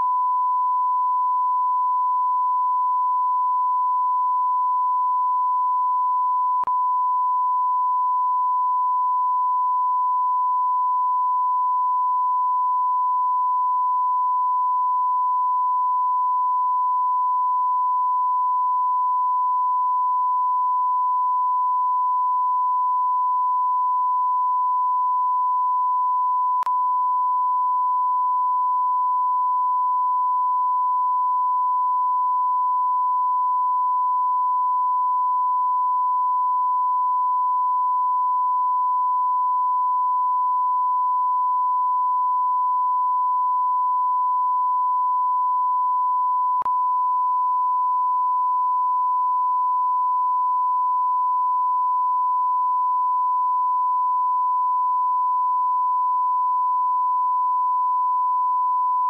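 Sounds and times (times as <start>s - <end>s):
sine test tone: 0.0s - 59.0s.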